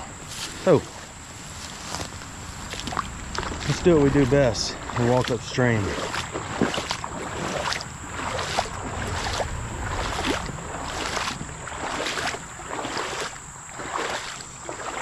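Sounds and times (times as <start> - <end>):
footsteps wading through water: 0.0 - 15.0.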